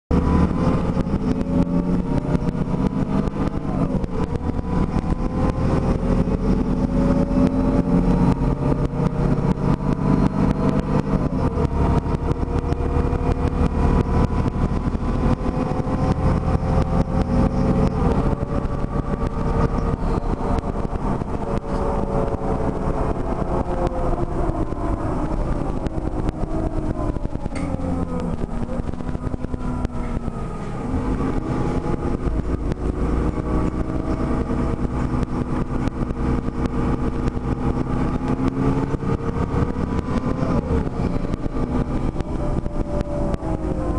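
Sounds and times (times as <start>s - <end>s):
bus diesel engine rumbling: 0.1s - 43.9s.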